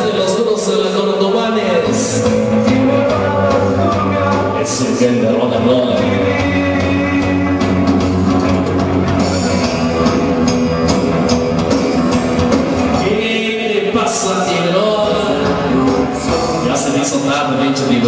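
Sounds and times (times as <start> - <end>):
rock and roll music: 0.0 - 18.0.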